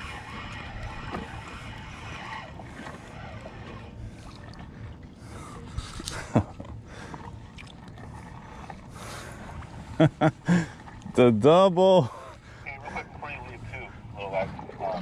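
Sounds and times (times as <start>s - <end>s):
water lapping against kayak: 0.0s - 15.0s.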